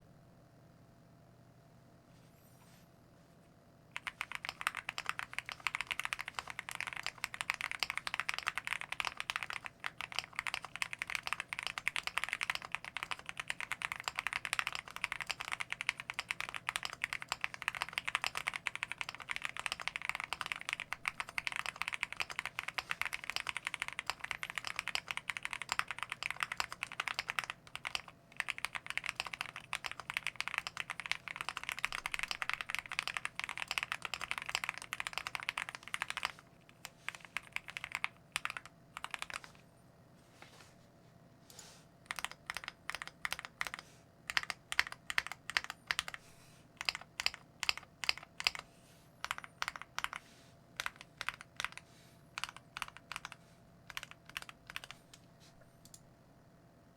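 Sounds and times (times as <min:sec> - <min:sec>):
fast mechanical keyboard typing: 0:04.0 - 0:39.6, 0:42.1 - 0:46.2, 0:46.8 - 0:50.2, 0:50.8 - 0:55.0.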